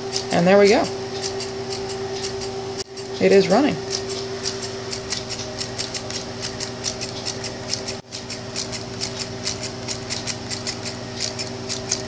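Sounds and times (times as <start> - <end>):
electrical hum: 0.0 - 12.0
solenoid engine clicking: 0.1 - 12.0.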